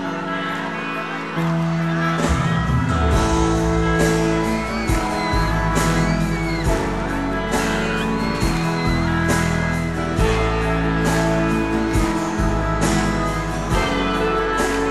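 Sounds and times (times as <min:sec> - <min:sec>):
audience whooping and cheering: 0:00.0 - 0:14.9
live band playing: 0:00.0 - 0:14.9.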